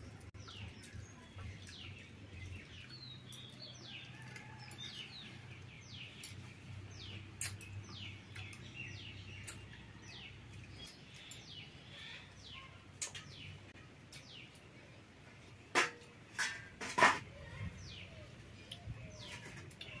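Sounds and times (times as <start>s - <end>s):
small birds chirping: 0.0s - 16.5s, 17.3s - 20.0s.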